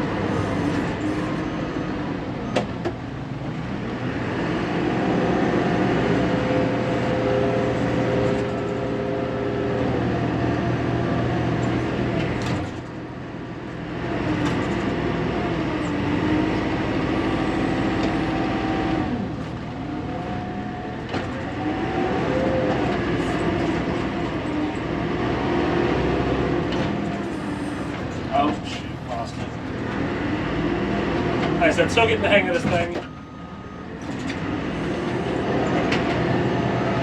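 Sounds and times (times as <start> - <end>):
diesel backhoe engine under load: 0.0 - 37.0.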